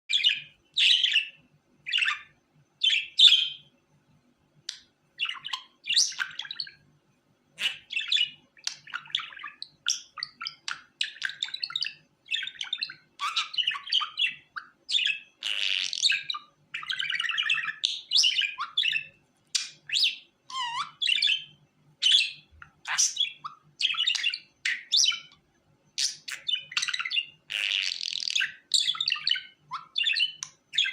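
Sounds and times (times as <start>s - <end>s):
budgerigar chirping and warbling: 0.1s - 3.7s, 5.2s - 6.8s, 7.6s - 25.4s, 26.0s - 30.9s.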